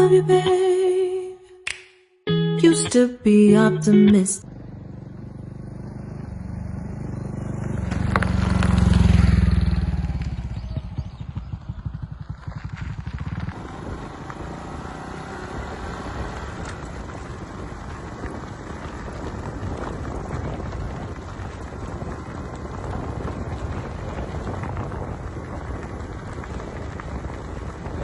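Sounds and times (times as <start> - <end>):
motorcycle engine running: 4.4 - 28.0.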